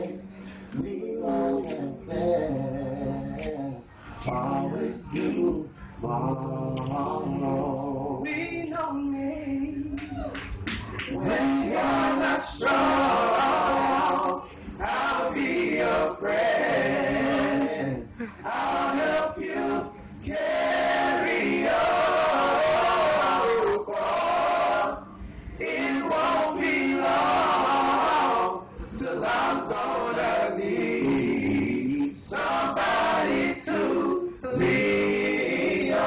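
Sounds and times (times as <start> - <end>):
male vocal group singing: 0.0 - 10.1, 11.1 - 36.0.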